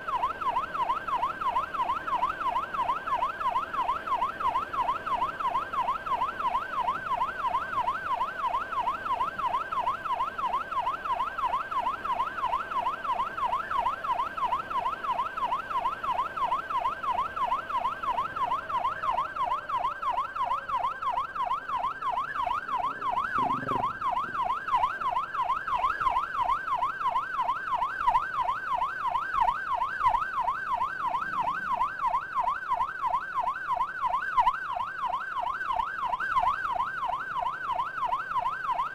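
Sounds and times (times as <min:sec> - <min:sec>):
emergency siren yelping: 0:00.0 - 0:38.9.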